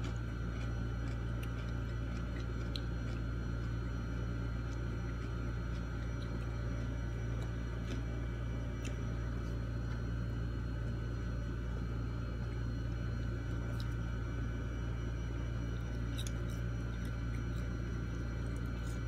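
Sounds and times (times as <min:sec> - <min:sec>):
soft eating clicks: 0:00.0 - 0:19.0
steady low hum: 0:00.0 - 0:19.0.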